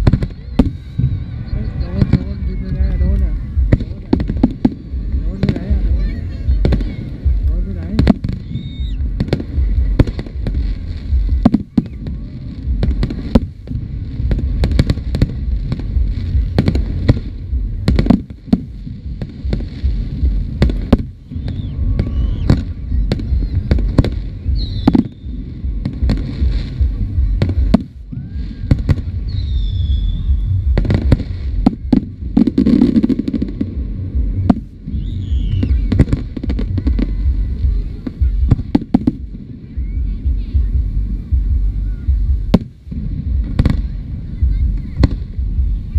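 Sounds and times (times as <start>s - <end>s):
continuous low rumble: 0.0s - 45.9s.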